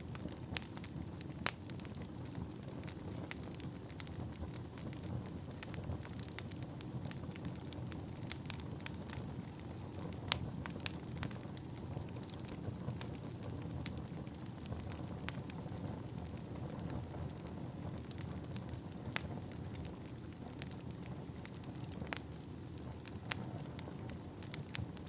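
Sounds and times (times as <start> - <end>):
hiss of flames: 0.0 - 25.0
wood fire crackling and popping: 0.0 - 25.0.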